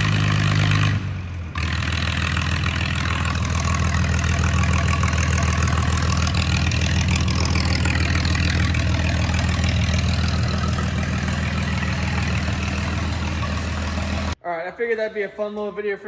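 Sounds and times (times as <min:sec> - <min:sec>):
loud tractor engine idling: 0:00.0 - 0:14.4.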